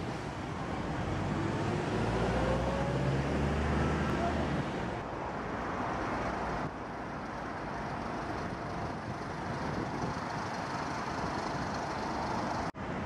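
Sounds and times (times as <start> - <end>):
distant city road traffic: 0.0 - 13.0.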